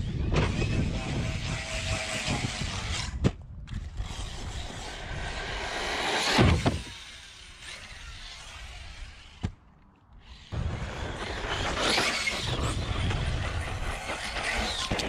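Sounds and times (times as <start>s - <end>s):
rc truck motor and tyres: 0.0s - 15.0s.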